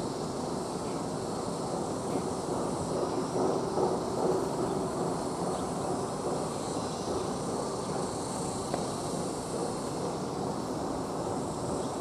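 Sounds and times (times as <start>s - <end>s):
distant jet engines: 0.0s - 12.0s.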